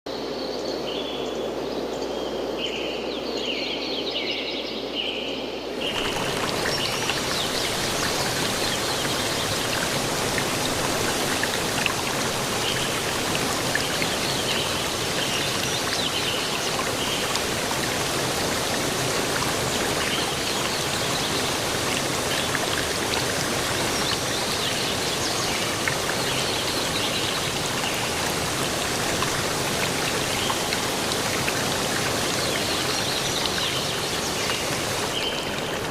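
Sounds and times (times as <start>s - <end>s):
waterfall rushing: 5.7s - 35.9s.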